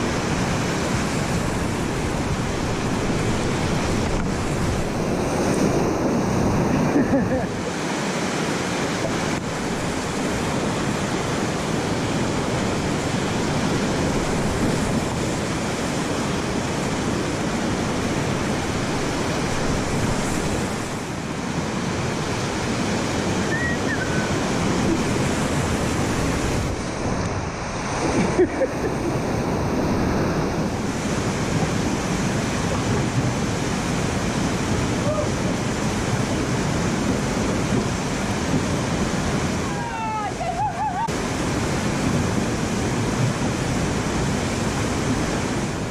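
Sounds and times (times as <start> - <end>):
whitewater rushing: 0.0 - 45.9.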